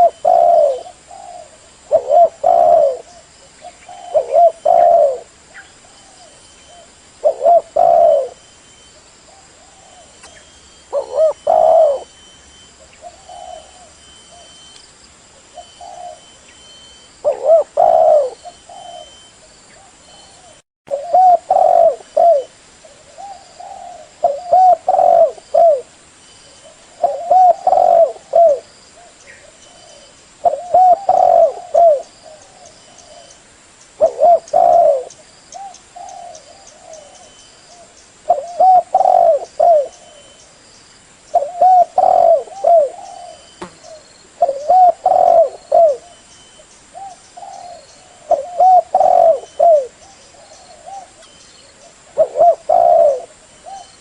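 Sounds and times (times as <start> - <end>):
dove cooing: 0.0 - 8.5, 9.3 - 14.6, 15.5 - 16.4, 17.2 - 25.9, 26.5 - 33.4, 34.0 - 40.4, 41.3 - 46.2, 46.9 - 54.0.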